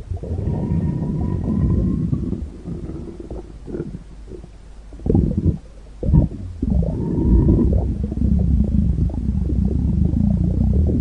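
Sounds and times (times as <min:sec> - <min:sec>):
stomach rumbling and gurgling: 0:00.0 - 0:11.0.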